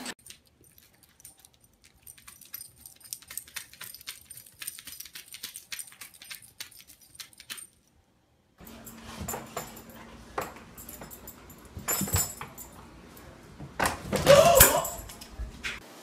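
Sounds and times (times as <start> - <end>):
dog collar chain jingling: 0.2 - 8.0, 8.6 - 15.8.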